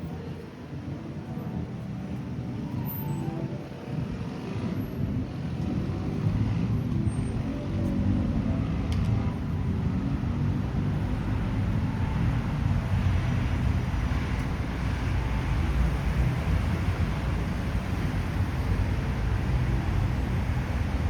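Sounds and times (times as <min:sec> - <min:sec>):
distant traffic: 0:00.0 - 0:21.0.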